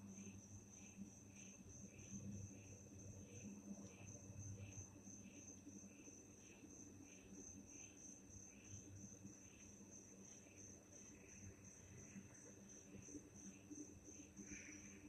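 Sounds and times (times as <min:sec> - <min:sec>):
faint low hum: 0:00.0 - 0:15.0
insect lower chirp: 0:00.0 - 0:15.0.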